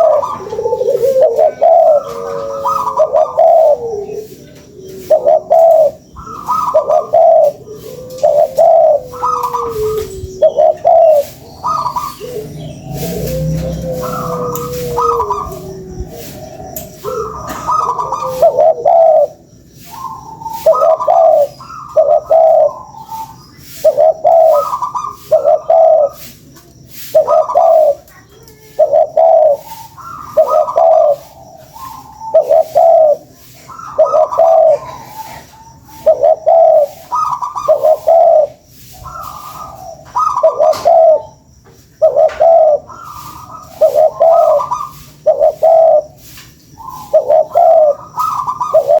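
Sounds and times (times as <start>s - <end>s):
dove cooing: 0.0s - 49.0s.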